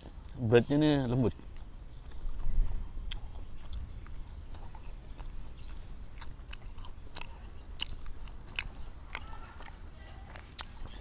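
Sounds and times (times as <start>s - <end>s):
wet chewing smacks: 1.3s - 11.0s.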